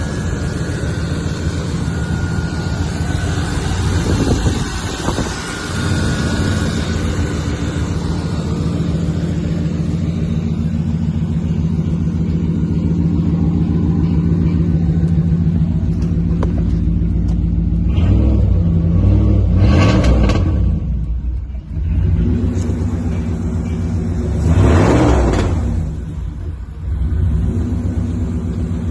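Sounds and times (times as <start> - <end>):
loud engine idling and revving: 0.0 - 28.9.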